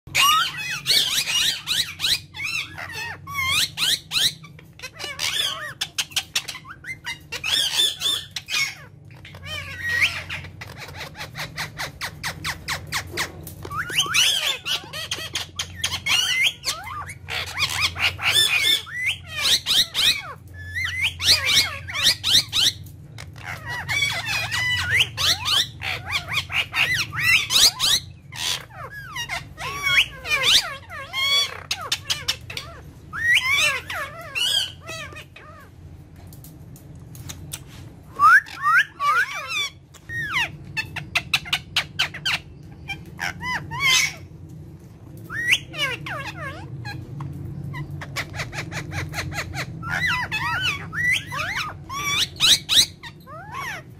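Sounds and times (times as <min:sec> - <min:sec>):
parakeets chattering and squawking: 0:00.1 - 0:53.9.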